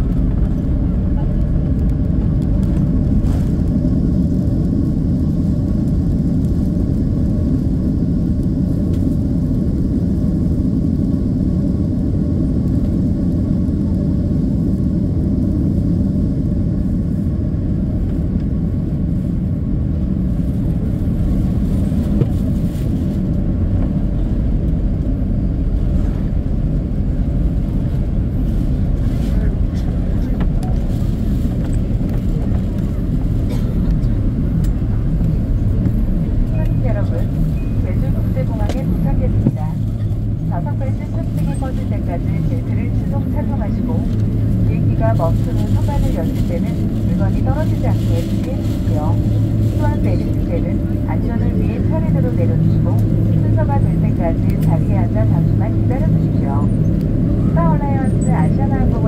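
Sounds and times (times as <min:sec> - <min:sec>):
airliner cabin rumble on runway: 0:00.0 - 0:59.0.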